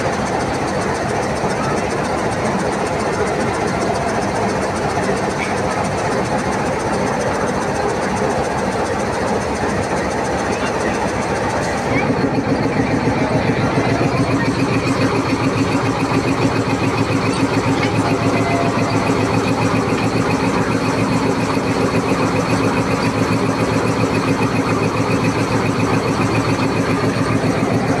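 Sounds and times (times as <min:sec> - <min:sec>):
locomotive engine idling: 0:00.0 - 0:28.0.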